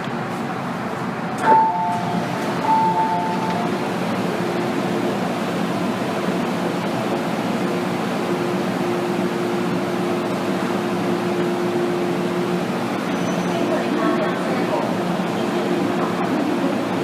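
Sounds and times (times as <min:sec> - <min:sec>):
train cabin rush: 0:00.0 - 0:17.0.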